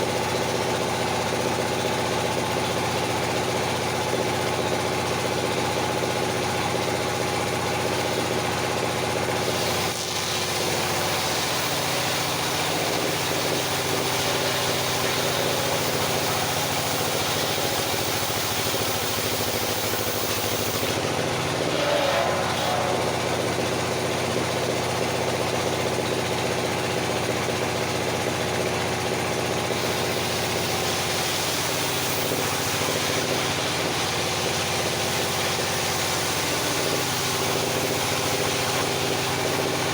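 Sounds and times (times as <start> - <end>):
sawmill machine hum: 0.0 - 39.9.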